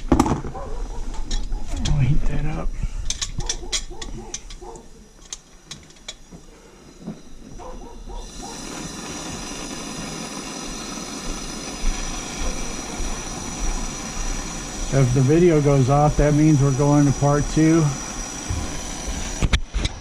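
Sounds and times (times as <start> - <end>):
torch flame hissing: 0.0 - 20.0.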